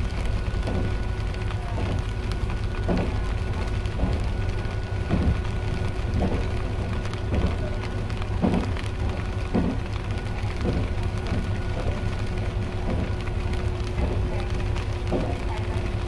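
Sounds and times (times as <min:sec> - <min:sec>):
railcar rumble: 0:00.0 - 0:16.0
soft rhythmic knock: 0:00.0 - 0:16.0.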